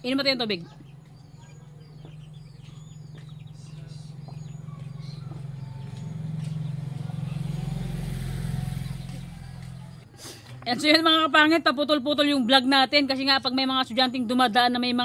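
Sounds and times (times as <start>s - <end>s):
birds chirping: 0.0s - 15.0s
vehicle engine humming: 0.0s - 15.0s.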